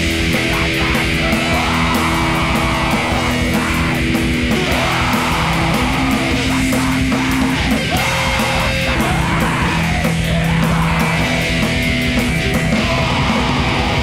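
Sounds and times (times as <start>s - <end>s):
distorted electric guitars: 0.0s - 14.0s
drums and cymbals: 0.0s - 14.0s
shouted vocal: 0.0s - 14.0s.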